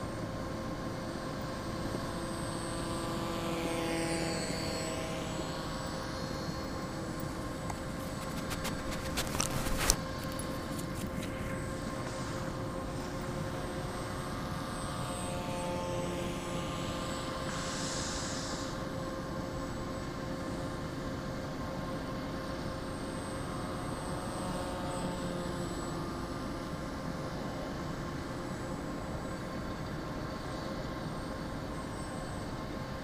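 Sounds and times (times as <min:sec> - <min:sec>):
model plane motor whining: 0:00.1 - 0:30.1.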